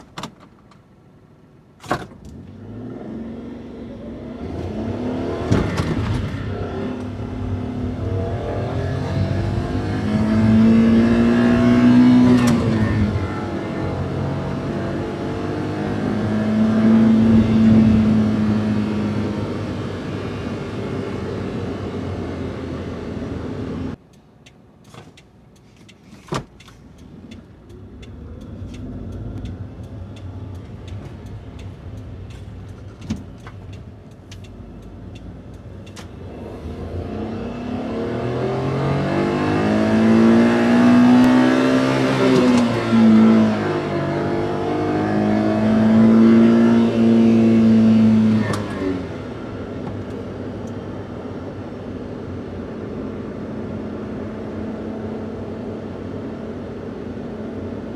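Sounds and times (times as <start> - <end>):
van engine accelerating: 2.2 - 24.0, 26.8 - 57.9.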